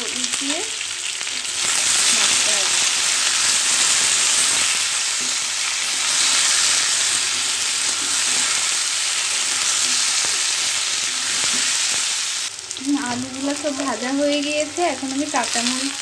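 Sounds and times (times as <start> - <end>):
potatoes sizzling in hot oil: 0.0 - 16.0
spatula turning food: 0.2 - 16.0.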